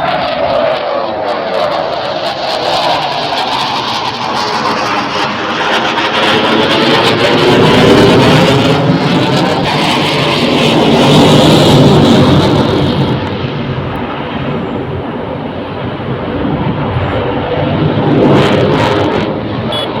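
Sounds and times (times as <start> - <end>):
military aircraft engine overhead: 0.0 - 20.0.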